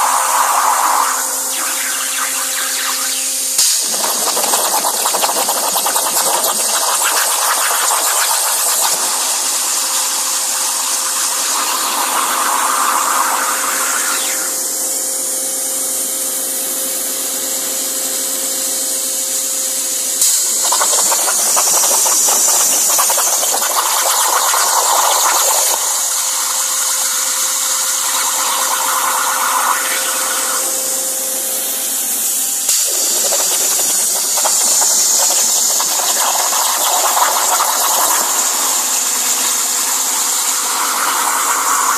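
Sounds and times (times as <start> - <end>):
plasma cutter hissing: 0.0 - 15.8, 20.2 - 41.9.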